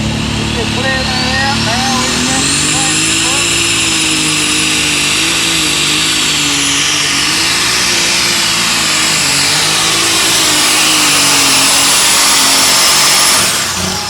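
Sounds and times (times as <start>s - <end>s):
steady high whine: 0.0s - 14.0s
tractor engine at high revs: 0.0s - 14.0s.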